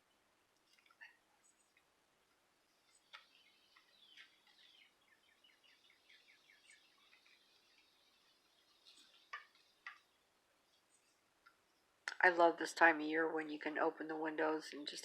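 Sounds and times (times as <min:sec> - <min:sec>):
faint birdsong chirps and trills: 0:00.0 - 0:15.0.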